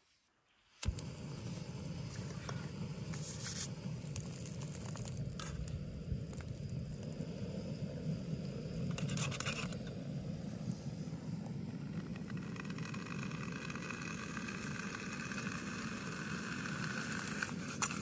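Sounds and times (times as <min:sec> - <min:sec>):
gas stove burning: 0:00.6 - 0:18.0.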